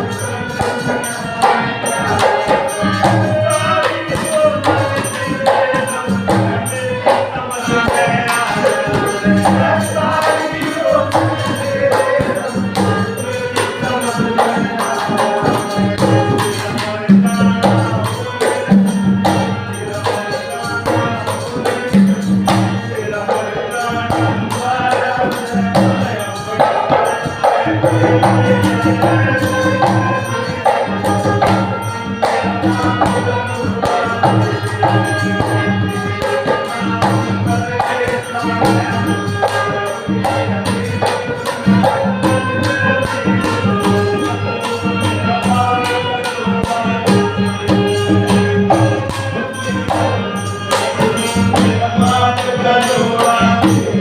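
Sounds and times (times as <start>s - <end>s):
devotional song melody: 0.0s - 54.0s
hand percussion: 0.0s - 54.0s.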